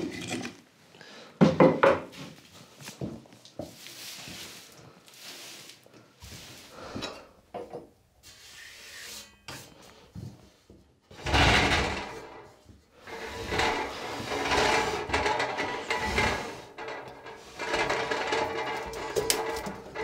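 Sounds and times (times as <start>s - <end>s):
stove scraping on wooden floor: 2.1s - 7.3s, 8.2s - 20.0s.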